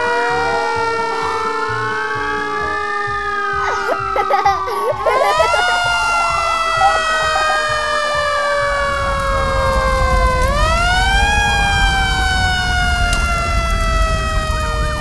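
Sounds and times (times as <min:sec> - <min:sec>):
vehicle siren wailing: 0:00.0 - 0:15.0.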